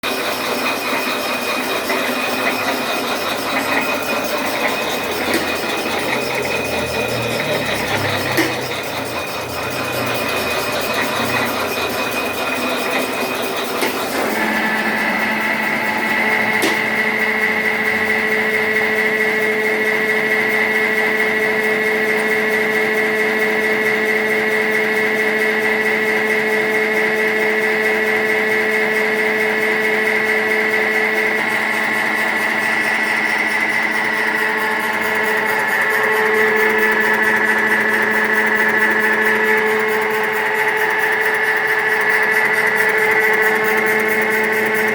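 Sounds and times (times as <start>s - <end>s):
pellet machine humming with whine: 0.0s - 44.9s.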